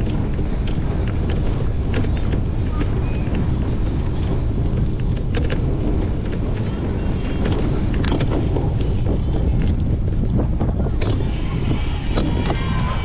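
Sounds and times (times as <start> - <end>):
bike clicks and rattles: 0.0 - 13.0
bike rumbling over rough ground: 0.0 - 13.0
wind buffeting microphone: 0.0 - 13.0.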